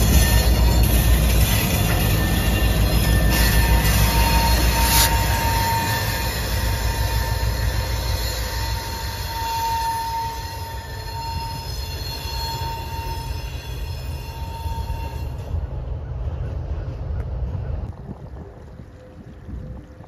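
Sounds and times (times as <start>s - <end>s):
train wheels squealing: 0.0s - 17.9s
train rumbling: 0.0s - 20.0s.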